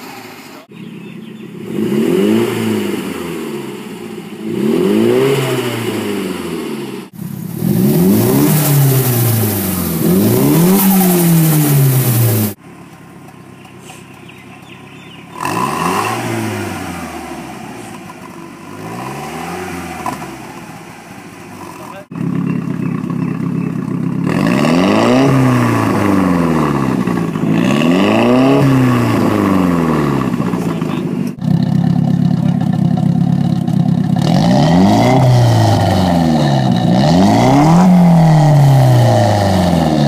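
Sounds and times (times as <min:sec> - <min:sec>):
car engine idling: 0:00.0 - 0:04.9, 0:05.6 - 0:40.0
car engine revving: 0:00.0 - 0:40.0.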